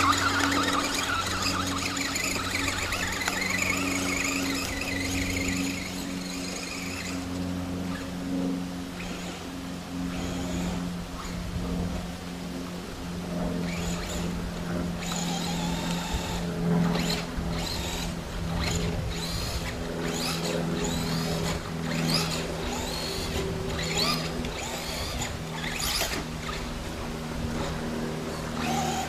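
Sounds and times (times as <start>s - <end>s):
electric motor whining: 0.0s - 29.0s
steady low hum: 0.0s - 29.0s.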